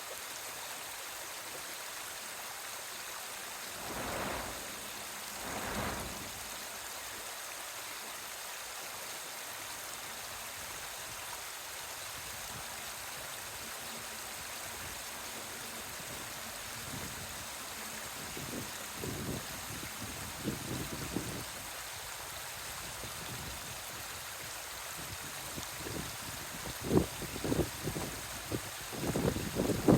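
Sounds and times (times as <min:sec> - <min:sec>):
steady hissing noise: 0:00.0 - 0:29.9.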